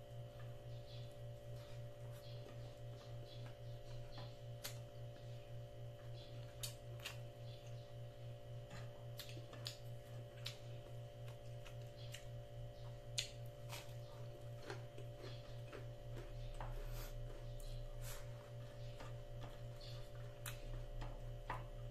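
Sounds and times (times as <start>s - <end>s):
low hum: 0.0s - 21.9s
person chewing with mouth full: 0.0s - 21.9s.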